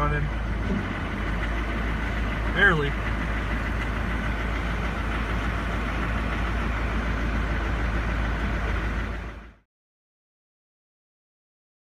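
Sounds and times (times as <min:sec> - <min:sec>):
diesel engine idling roughly: 0:00.0 - 0:09.6.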